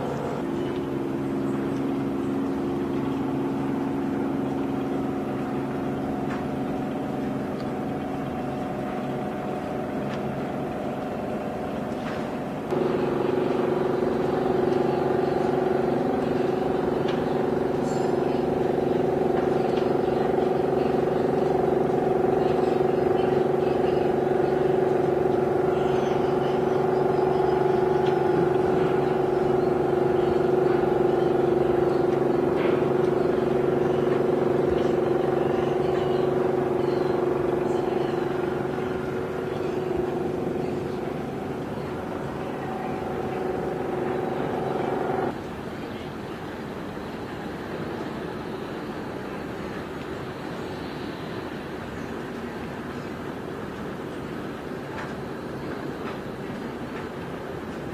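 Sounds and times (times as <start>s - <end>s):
engine drone: 0.0s - 57.9s.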